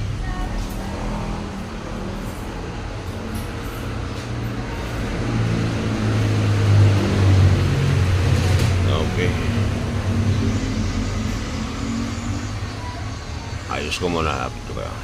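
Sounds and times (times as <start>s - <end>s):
low mechanical motor hum: 0.0s - 15.0s.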